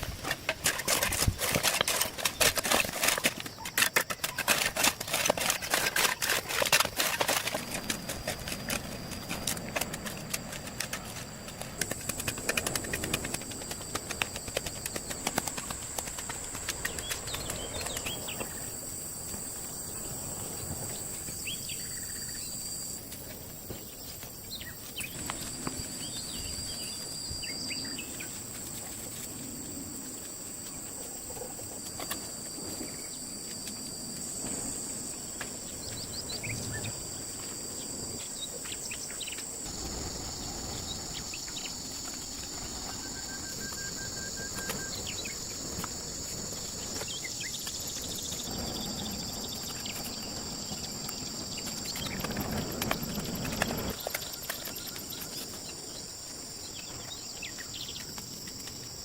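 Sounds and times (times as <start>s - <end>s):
insect chorus trilling: 0.0s - 59.0s.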